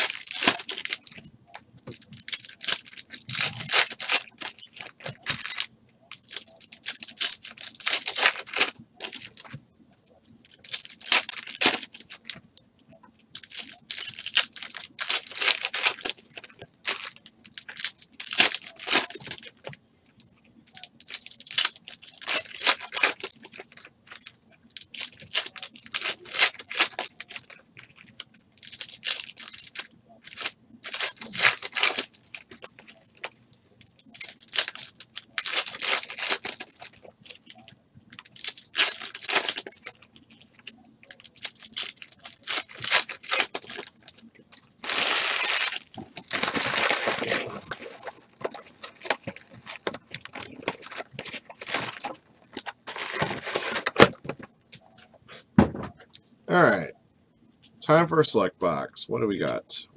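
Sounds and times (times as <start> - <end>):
foil wrappers tearing: 0.0 - 1.3, 1.9 - 9.6, 10.5 - 12.4, 13.3 - 19.8, 20.7 - 54.4
plastic sleeve crinkling: 0.0 - 55.2.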